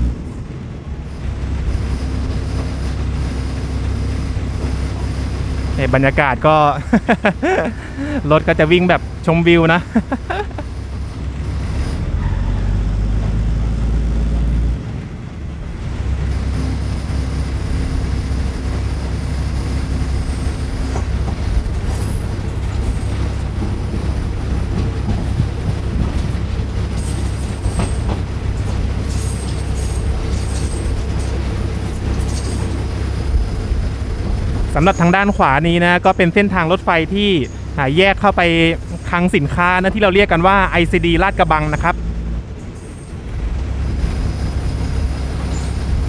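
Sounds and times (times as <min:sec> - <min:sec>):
train rumbling on track: 0:00.0 - 0:46.0
high wheel squeals: 0:01.6 - 0:13.6, 0:16.2 - 0:46.0.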